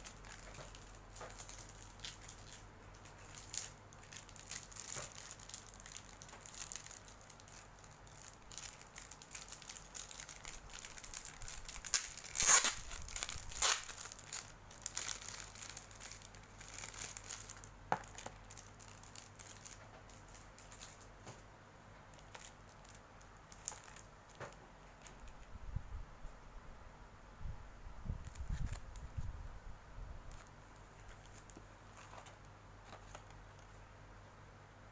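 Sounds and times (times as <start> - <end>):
plastic packaging crinkling: 0.0 - 21.4, 22.1 - 25.5, 28.2 - 29.3, 30.3 - 33.7.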